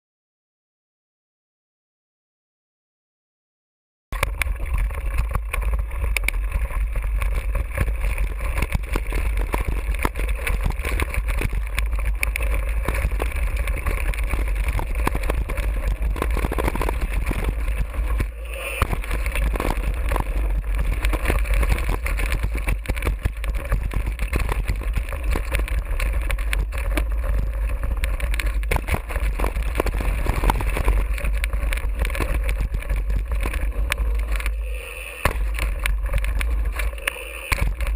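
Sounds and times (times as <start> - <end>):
bike rattling over stones: 4.2 - 37.9
wind rumble on microphone: 4.2 - 37.9.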